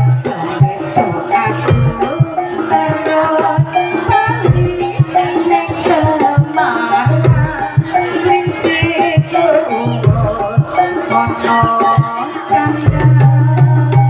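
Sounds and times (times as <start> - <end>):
wavering melody line: 0.0 - 14.0.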